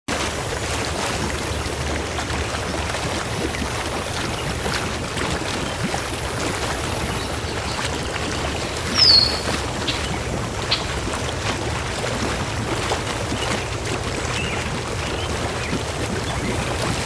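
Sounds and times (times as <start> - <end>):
sea waves rushing: 0.1 - 17.0.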